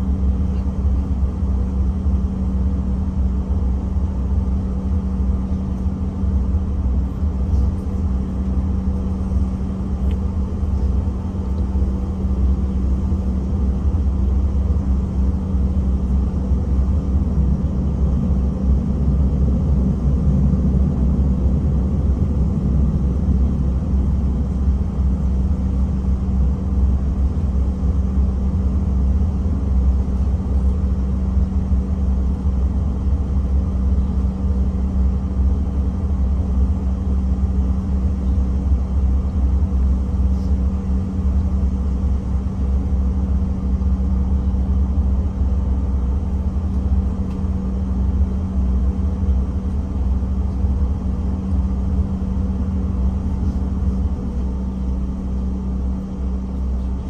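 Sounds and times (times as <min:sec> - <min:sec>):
jet cabin engine drone: 0:00.0 - 0:57.0
steady hum: 0:00.0 - 0:57.0.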